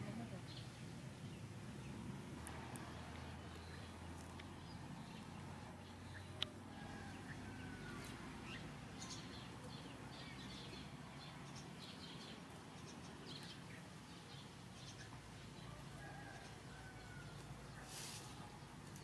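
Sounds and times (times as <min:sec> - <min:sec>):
outdoor background hum: 0:00.0 - 0:19.0
small birds chirping: 0:00.0 - 0:19.0.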